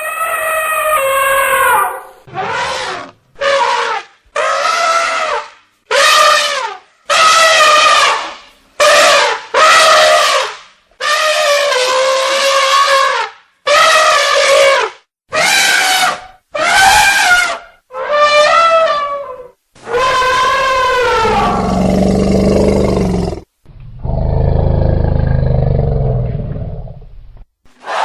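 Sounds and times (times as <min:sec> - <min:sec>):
elephant trumpeting: 0:00.0 - 0:23.4.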